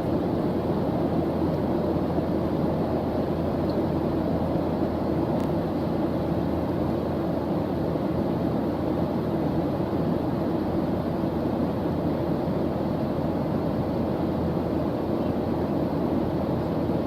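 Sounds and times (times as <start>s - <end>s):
deep white noise: 0.0s - 17.0s.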